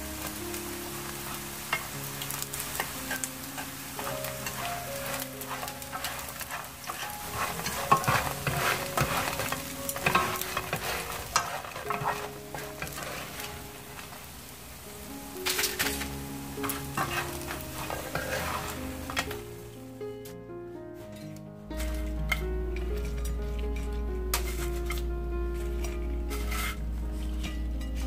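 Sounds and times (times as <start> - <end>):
wooden utensils clicking and scraping: 0.0 - 14.5, 15.3 - 20.4, 21.0 - 28.0
mushrooms sizzling in a pan: 0.0 - 20.0, 21.0 - 28.0.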